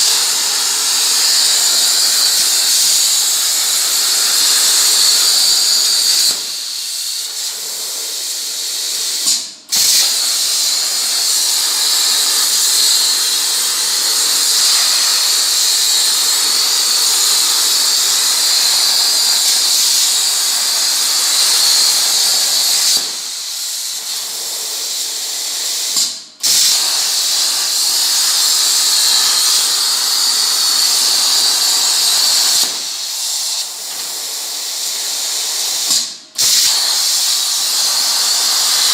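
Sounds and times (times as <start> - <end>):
plasma torch cutting metal: 0.0 - 38.9.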